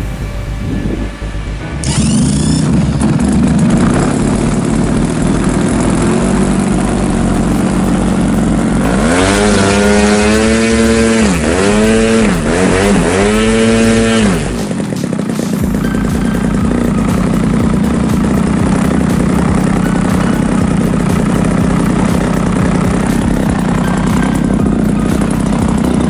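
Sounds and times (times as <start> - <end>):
model plane engine revving: 0.8 - 26.0.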